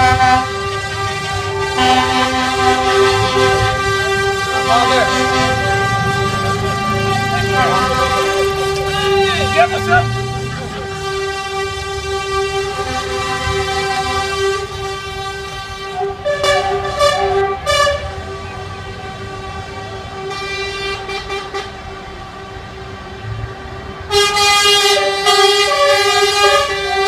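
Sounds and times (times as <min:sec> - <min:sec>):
truck air horns: 0:00.0 - 0:22.6, 0:24.1 - 0:27.0.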